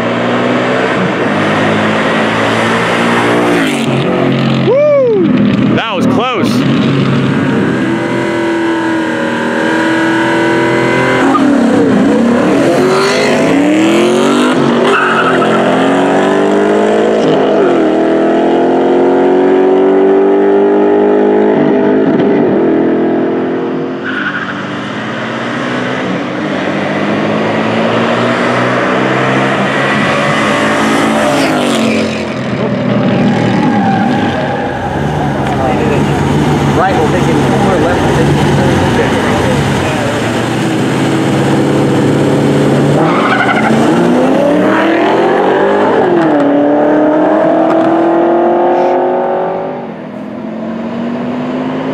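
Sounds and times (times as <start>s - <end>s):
race car engines accelerating: 0.0s - 51.9s.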